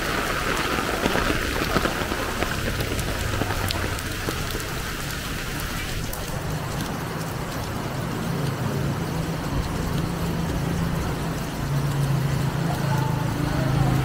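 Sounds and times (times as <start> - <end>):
engine humming: 0.0 - 14.0
heavy rain: 0.0 - 14.0.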